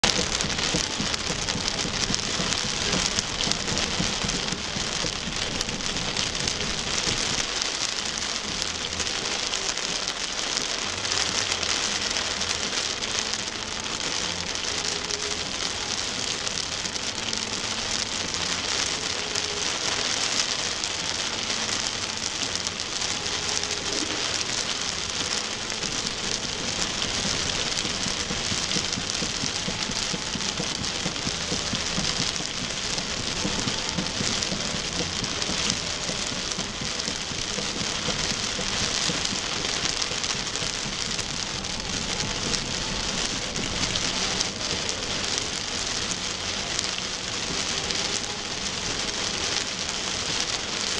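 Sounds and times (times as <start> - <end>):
rain on car windshield: 0.0 - 50.9.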